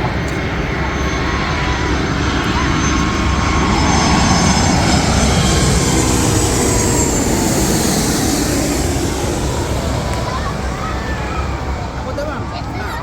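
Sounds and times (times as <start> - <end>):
airliner passing: 0.0 - 13.0.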